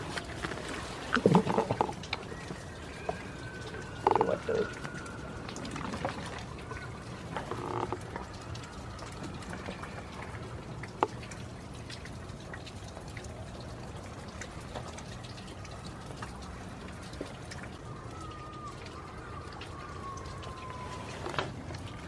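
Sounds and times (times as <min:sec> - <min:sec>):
drip ticks: 0:00.0 - 0:20.8
rain falling: 0:00.0 - 0:22.0.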